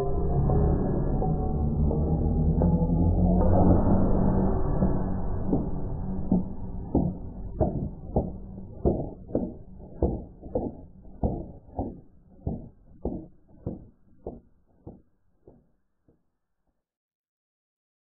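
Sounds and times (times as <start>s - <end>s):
slowed song low muffled strokes: 0.0s - 15.7s.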